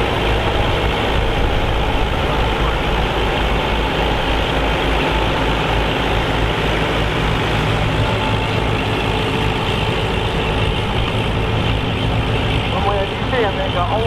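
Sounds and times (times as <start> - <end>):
tractor diesel engines under load: 0.0 - 14.0.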